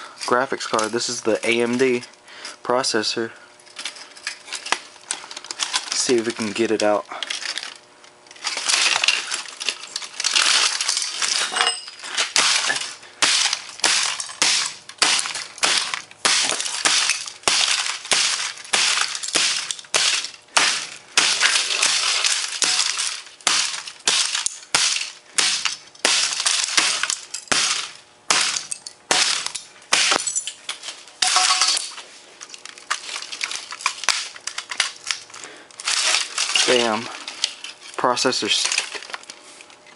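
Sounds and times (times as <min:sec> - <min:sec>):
laptop parts cracking and clattering: 0:03.7 - 0:28.0, 0:28.6 - 0:39.4.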